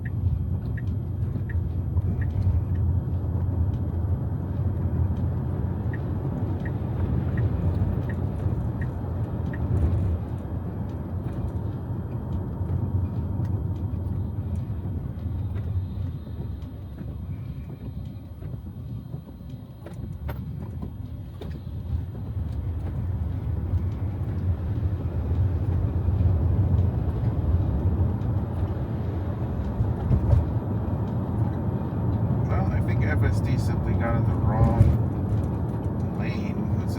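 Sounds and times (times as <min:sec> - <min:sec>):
road and tyre noise in car: 0:00.0 - 0:36.9.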